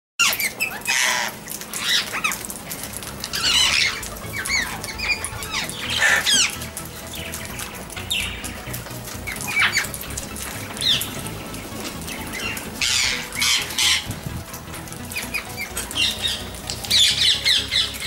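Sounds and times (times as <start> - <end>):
parrots squawking and screeching: 0.2 - 7.4, 9.2 - 10.1, 10.7 - 11.2, 12.0 - 18.0.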